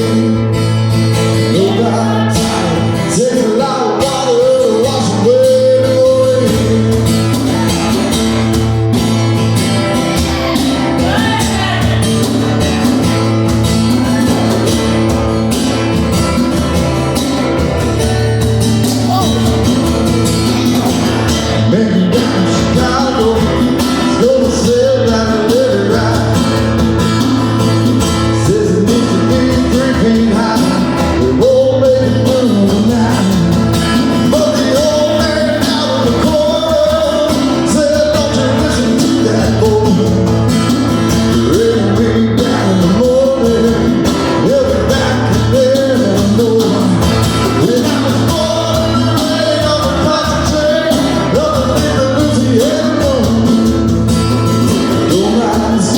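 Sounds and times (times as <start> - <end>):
song with singing voice: 0.0 - 55.9.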